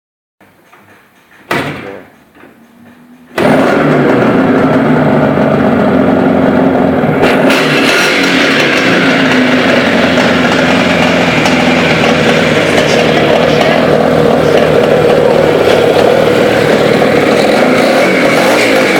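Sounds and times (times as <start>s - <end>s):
motorcycle engine starting: 2.5s - 18.9s.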